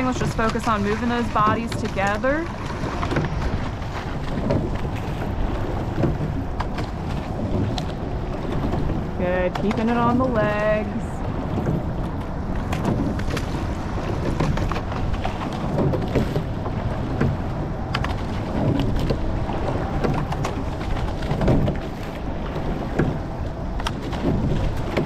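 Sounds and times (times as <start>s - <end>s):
oars clicking in oarlocks: 0.0s - 25.0s
rush of water and wind: 0.0s - 25.0s.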